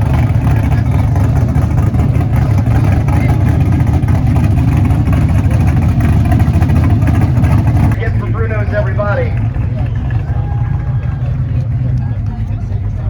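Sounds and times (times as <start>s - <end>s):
vehicle engine deep rumble: 0.0s - 13.0s.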